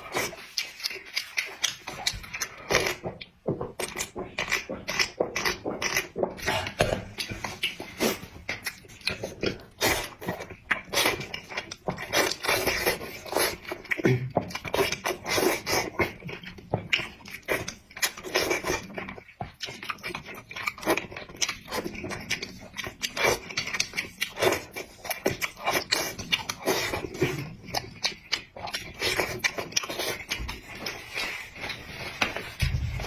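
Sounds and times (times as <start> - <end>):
person chewing and smacking: 0.0 - 33.0.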